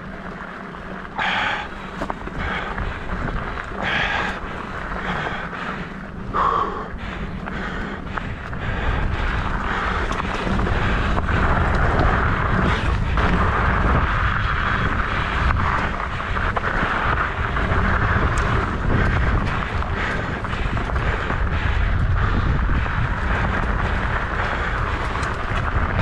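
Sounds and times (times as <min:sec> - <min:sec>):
bike clicks and rattles: 0:00.0 - 0:26.0
bike tyres rolling over rock: 0:00.0 - 0:26.0
wind rumble on microphone: 0:00.0 - 0:26.0.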